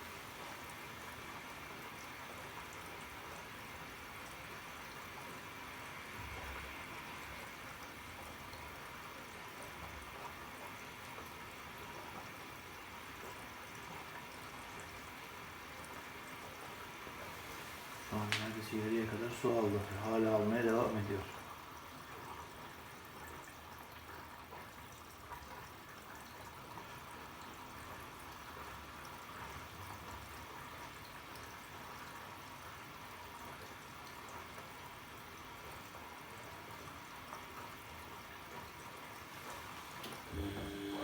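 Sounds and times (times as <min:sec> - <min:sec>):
water running into washing machine: 0:00.0 - 0:41.0.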